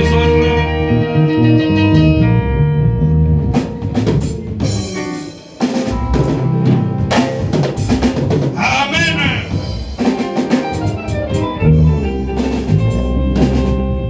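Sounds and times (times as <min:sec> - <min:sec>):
drum kit: 0:00.0 - 0:14.0
live band playing: 0:00.0 - 0:14.0.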